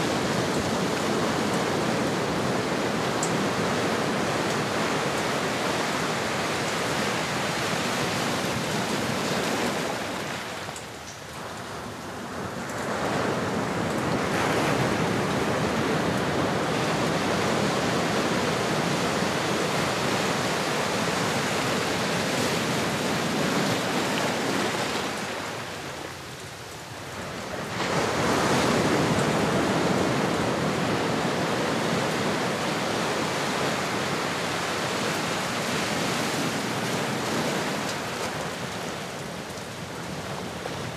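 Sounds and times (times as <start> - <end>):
ocean waves rushing: 0.0 - 40.9.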